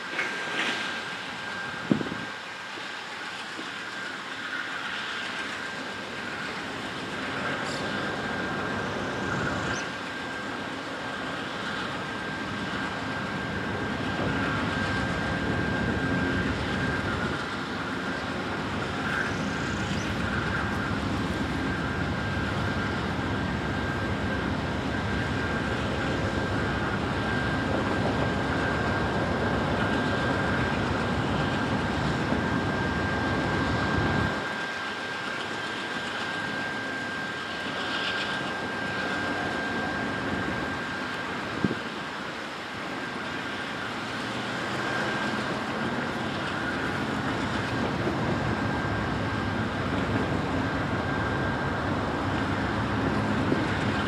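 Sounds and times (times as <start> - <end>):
high whine: 3.3 - 54.0.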